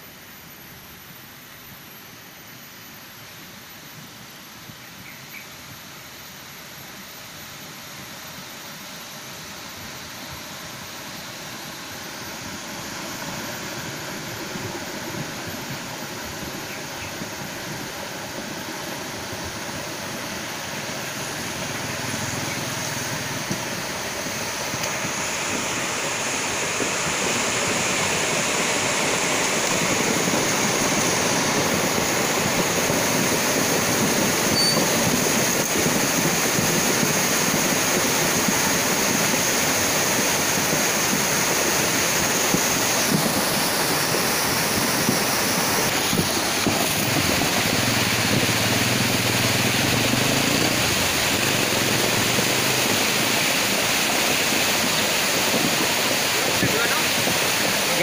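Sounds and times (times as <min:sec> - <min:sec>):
flash flood rushing: 0:09.4 - 0:58.0.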